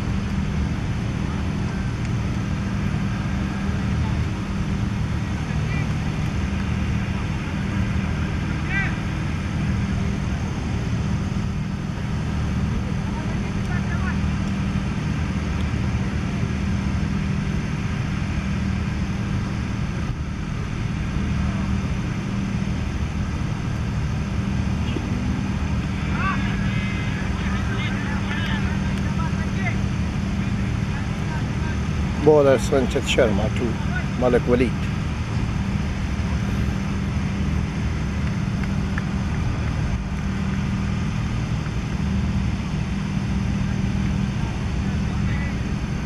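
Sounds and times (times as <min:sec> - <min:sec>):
engine humming: 0:00.0 - 0:46.0.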